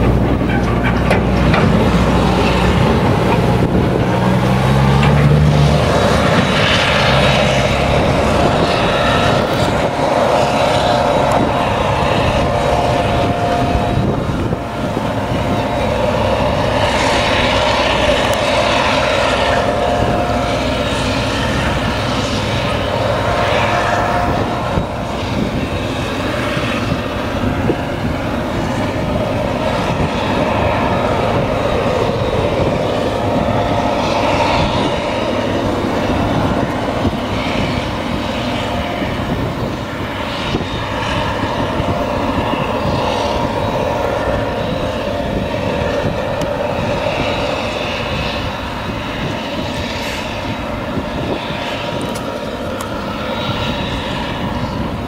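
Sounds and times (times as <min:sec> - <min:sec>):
diesel engine droning with whine: 0:00.0 - 0:55.0
tractor engine: 0:00.0 - 0:55.0.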